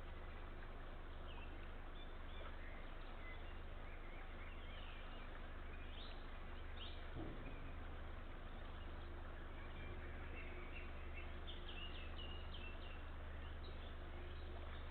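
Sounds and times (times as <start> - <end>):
low hum: 0.0 - 14.9
small birds chirping: 0.0 - 14.9.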